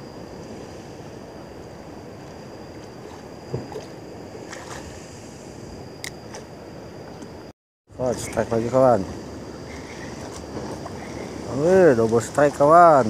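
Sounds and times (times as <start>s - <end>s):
sea noise: 0.0s - 13.0s
wind: 0.0s - 13.0s.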